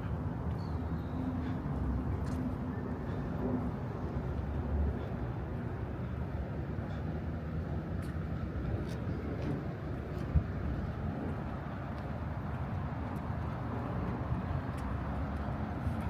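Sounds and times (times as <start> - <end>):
urban background rumble and hiss: 0.0 - 16.0.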